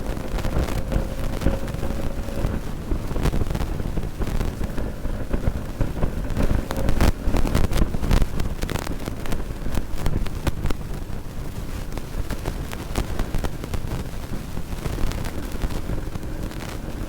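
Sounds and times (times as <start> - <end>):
motorcycle engine running: 0.0 - 17.0
wind buffeting on microphone: 0.0 - 17.0.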